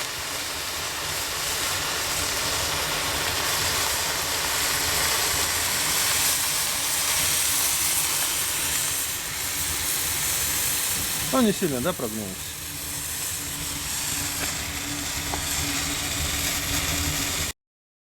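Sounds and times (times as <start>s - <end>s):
steam hissing: 0.0s - 17.5s.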